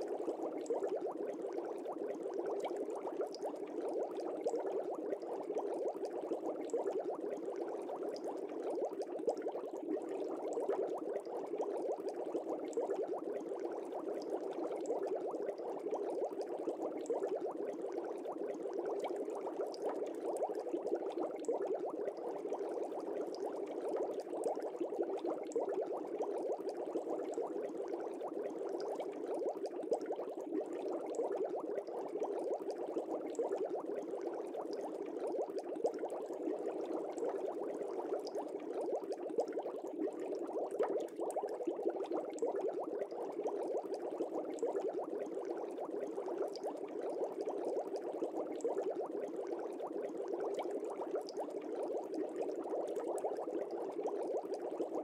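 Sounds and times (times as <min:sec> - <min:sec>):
aquarium water bubbling: 0:00.0 - 0:55.0.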